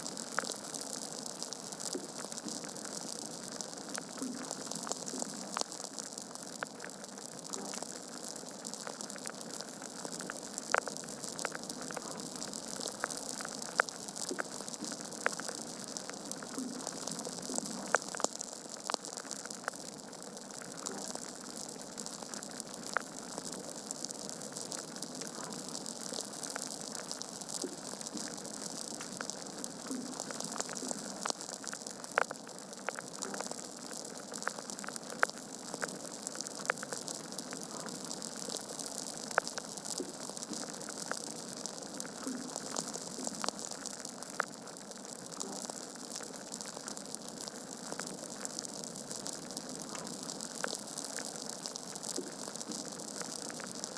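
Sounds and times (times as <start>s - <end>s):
wood fire crackling and popping: 0.1s - 53.9s.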